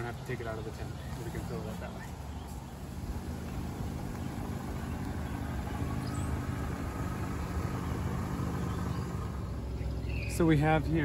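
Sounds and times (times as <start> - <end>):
car engine low hum: 0.0 - 11.0.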